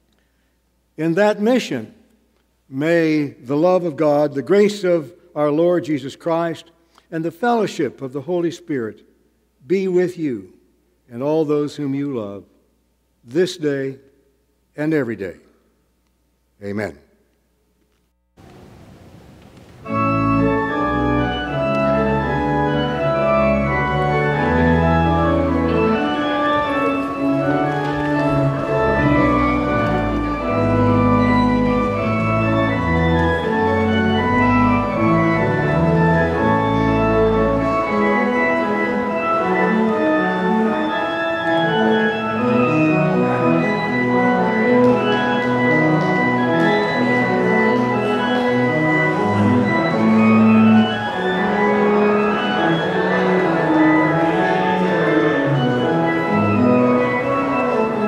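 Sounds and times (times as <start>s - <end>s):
church organ chords: 0.9s - 15.5s, 18.4s - 58.0s.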